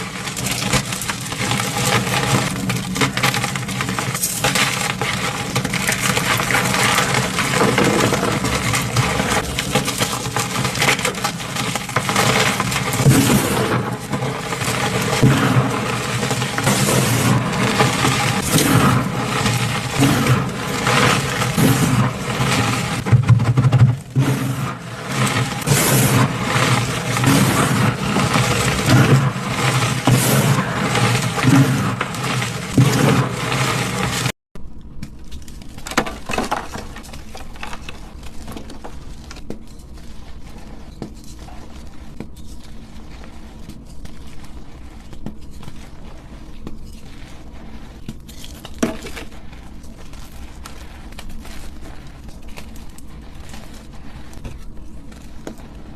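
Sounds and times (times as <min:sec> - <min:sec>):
chalk crunching and crackling: 0:00.0 - 0:34.4, 0:35.3 - 0:55.9.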